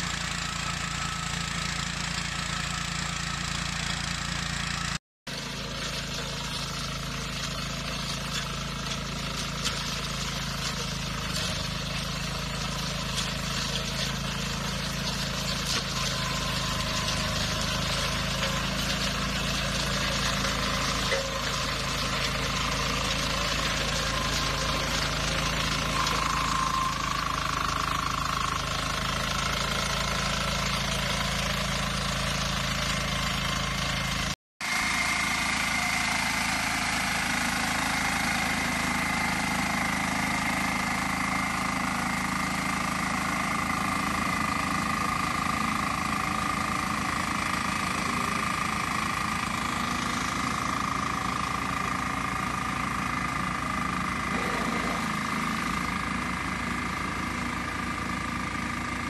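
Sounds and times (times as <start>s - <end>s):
mower engine running: 0.0s - 59.0s.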